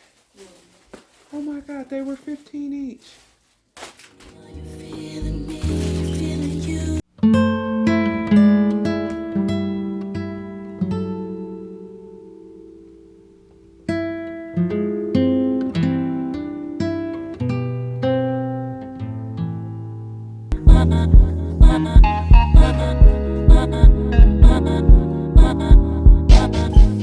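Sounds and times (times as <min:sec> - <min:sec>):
plucked acoustic guitar music: 0:04.1 - 0:27.0.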